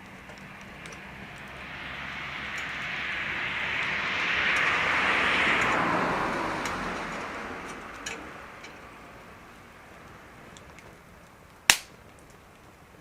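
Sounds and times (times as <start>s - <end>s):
vehicle passing by: 0.0s - 10.5s
wood fire crackling: 0.0s - 13.0s.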